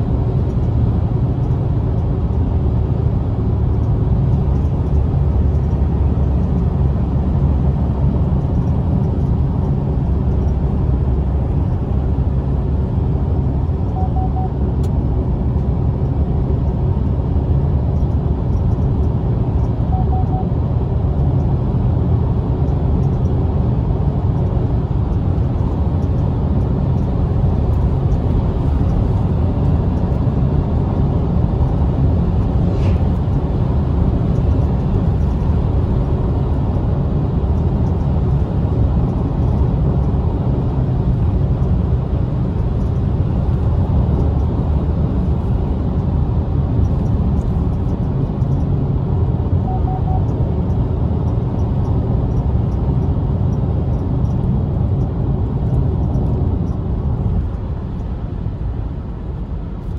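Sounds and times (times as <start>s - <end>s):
car engine cruising: 0.0s - 59.9s.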